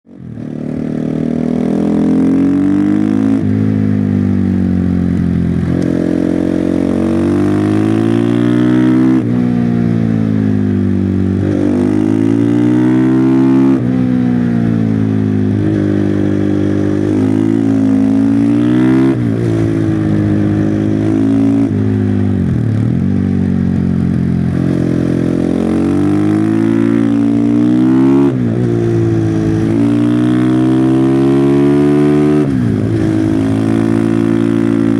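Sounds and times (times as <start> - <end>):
motorcycle engine revving hard: 0.1 - 34.9.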